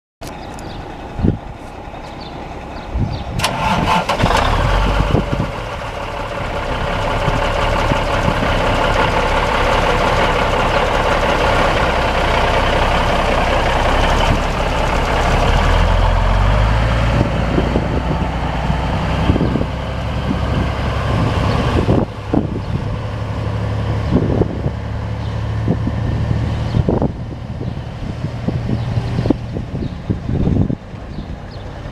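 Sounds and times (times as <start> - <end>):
diesel truck engine starting and idling: 0.2 - 31.9.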